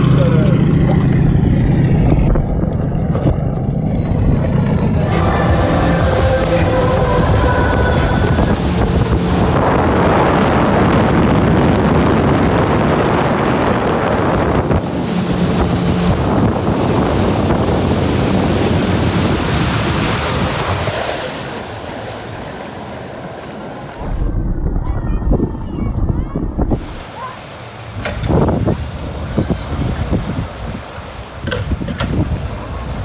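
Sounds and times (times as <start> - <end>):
water rushing along boat hull: 0.0 - 33.0
wind buffeting microphone: 0.0 - 33.0.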